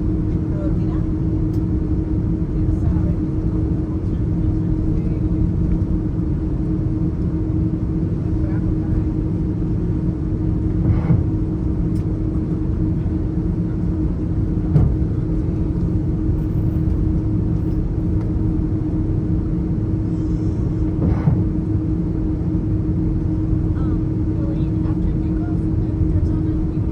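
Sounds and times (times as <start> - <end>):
airliner cabin engine rumble: 0.0 - 26.9
constant hum: 0.0 - 26.9.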